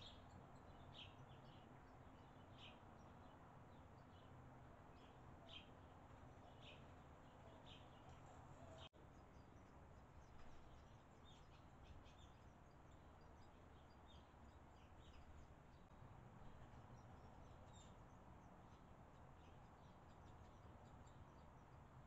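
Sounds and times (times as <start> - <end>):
swallows chirping: 0.0 - 22.0.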